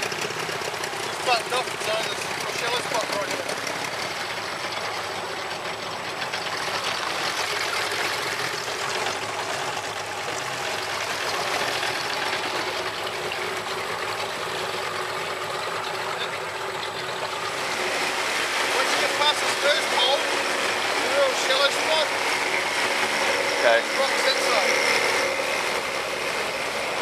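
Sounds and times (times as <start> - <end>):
outboard motor running: 0.0 - 27.0
water rushing along hull: 0.0 - 27.0.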